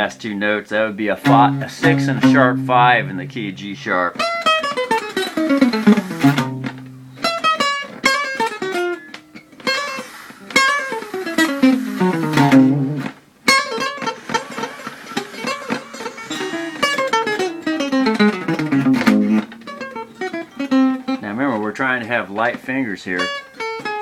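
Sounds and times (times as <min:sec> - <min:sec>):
acoustic guitar picking runs: 0:01.1 - 0:21.2.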